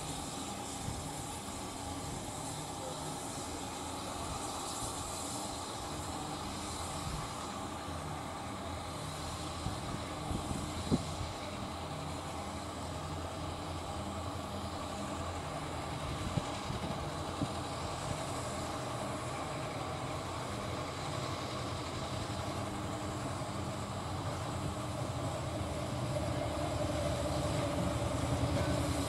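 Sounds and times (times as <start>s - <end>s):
diesel locomotive engine humming: 0.0s - 29.0s.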